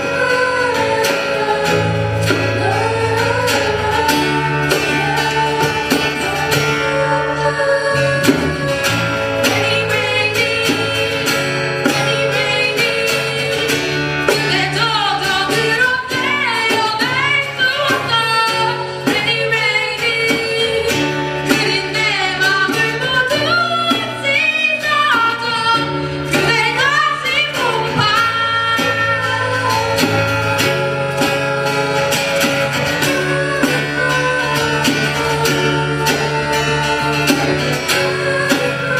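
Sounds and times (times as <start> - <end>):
acoustic guitars playing: 0.0 - 38.9
woman singing wordless vocal runs: 0.0 - 38.9.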